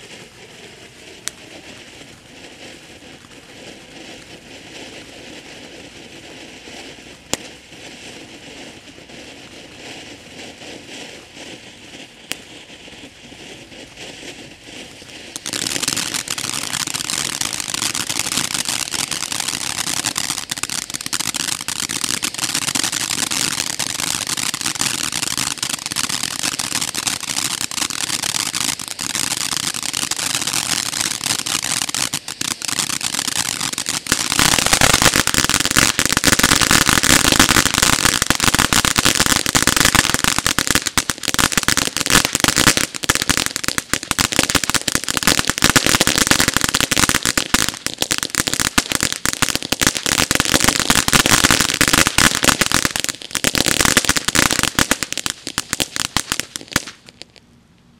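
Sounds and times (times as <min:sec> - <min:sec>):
firework fountain hissing and crackling: 0:00.0 - 0:57.5.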